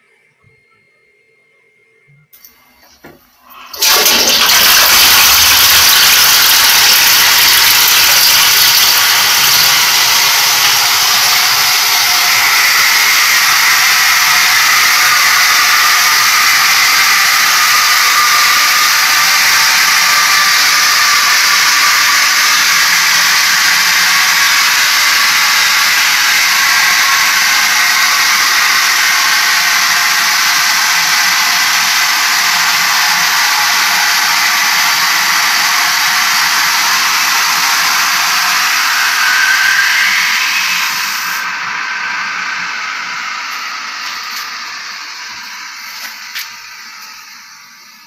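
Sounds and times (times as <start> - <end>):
toilet flush water rushing: 2.8 - 48.0.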